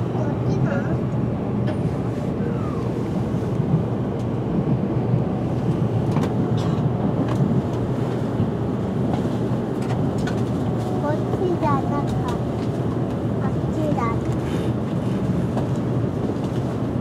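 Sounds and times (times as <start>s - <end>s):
train carriage low rumble: 0.0s - 17.0s.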